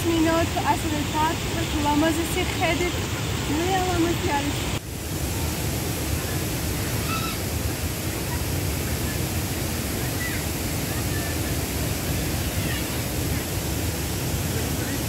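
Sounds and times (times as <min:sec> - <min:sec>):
stream flowing over stones: 0:00.0 - 0:15.0.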